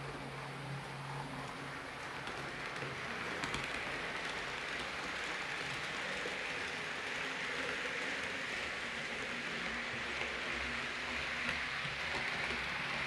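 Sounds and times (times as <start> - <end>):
model train whirring rumble: 0.0 - 13.0.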